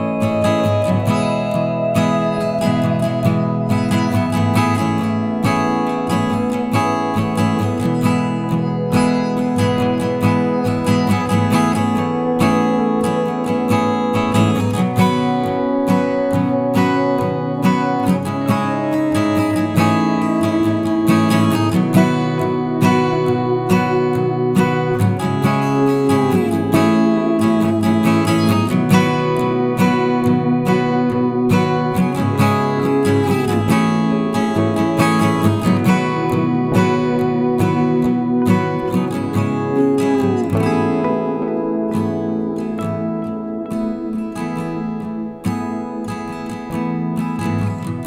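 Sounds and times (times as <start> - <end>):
acoustic guitar music: 0.0 - 48.0.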